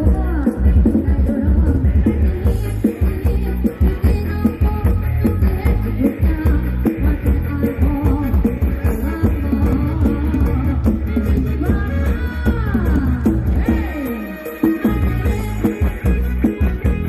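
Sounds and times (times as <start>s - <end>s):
loud live rock band: 0.0s - 17.0s
person singing: 0.0s - 17.0s.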